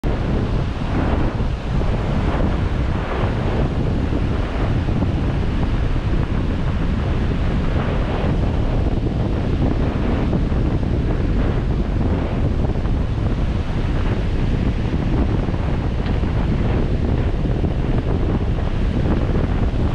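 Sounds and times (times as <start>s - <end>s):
surf washing in: 0.0s - 19.9s
wind buffeting microphone: 0.0s - 19.9s.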